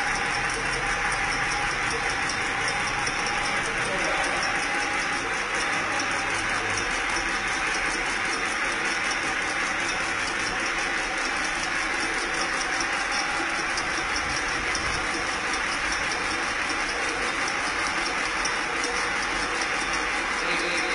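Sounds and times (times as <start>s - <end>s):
machine clattering: 0.0s - 20.9s.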